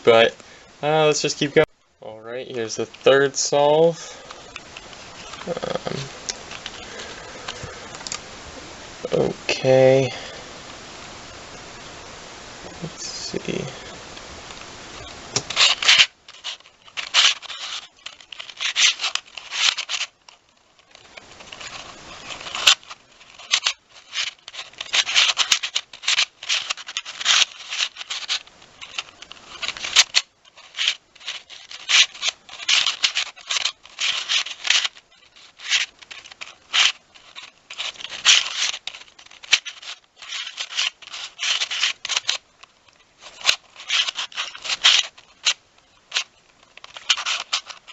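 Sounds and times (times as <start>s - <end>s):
puzzle cube pieces scraping and clicking: 2.5s - 8.2s, 14.6s - 47.9s.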